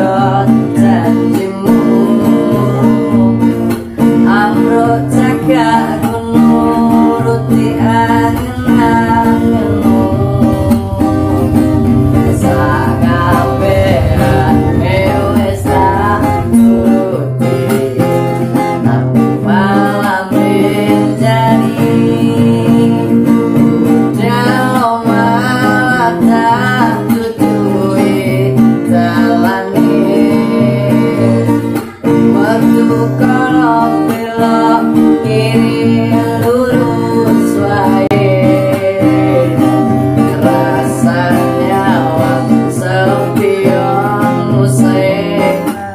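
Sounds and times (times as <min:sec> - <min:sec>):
classical guitar strumming: 0:00.0 - 0:45.9.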